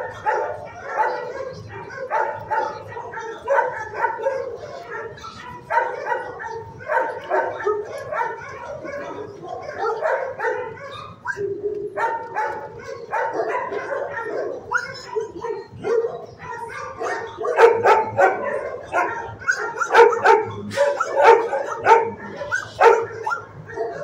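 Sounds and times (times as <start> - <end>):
dogs barking: 0.0 - 24.0.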